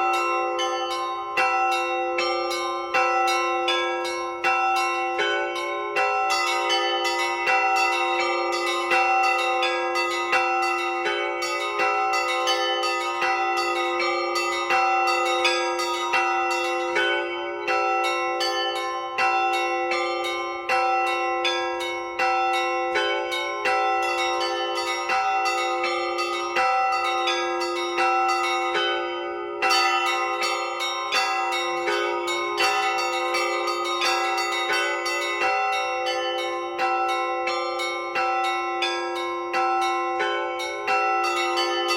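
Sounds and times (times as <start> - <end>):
heavy bell strikes: 0.0 - 41.9
hum of larger bells: 0.0 - 41.9
small treble bells ringing: 0.0 - 41.9.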